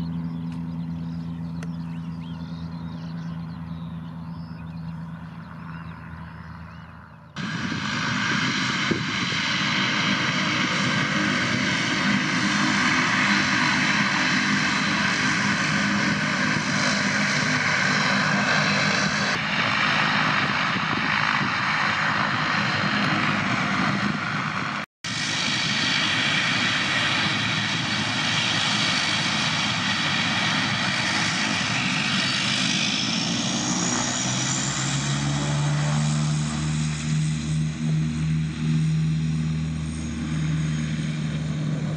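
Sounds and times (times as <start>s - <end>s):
high engine whine: 0.0s - 41.9s
turboprop propeller drone: 0.0s - 41.9s.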